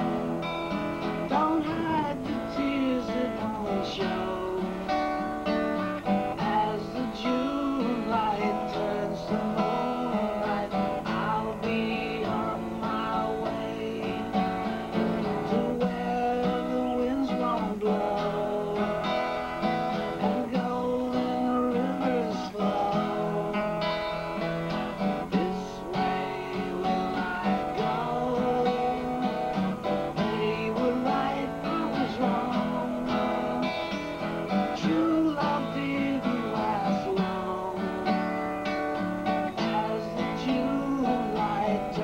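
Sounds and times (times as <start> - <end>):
acoustic guitar playing: 0.0 - 42.0.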